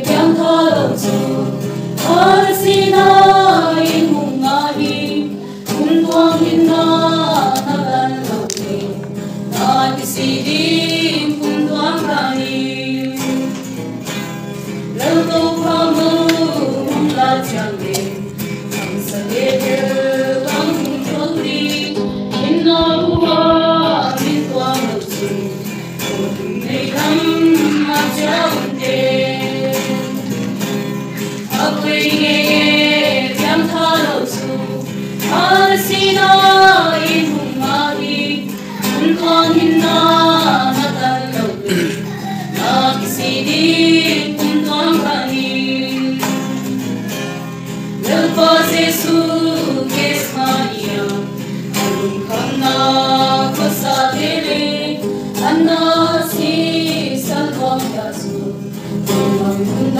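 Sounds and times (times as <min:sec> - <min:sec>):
girls singing a hymn: 0:00.0 - 0:59.9
strummed acoustic guitar: 0:00.0 - 0:59.9.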